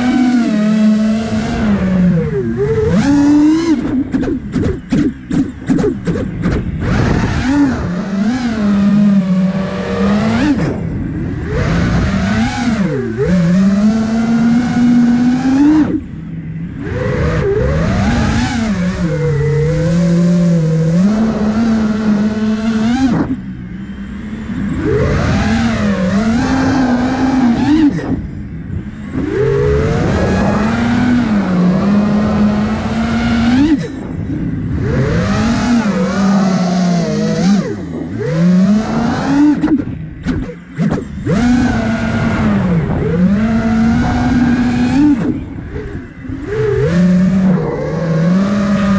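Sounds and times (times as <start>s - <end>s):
quadcopter motors whining: 0.0s - 48.9s.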